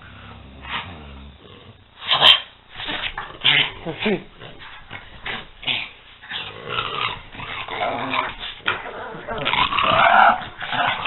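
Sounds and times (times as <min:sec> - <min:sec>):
dogs play-growling: 0:00.0 - 0:11.0.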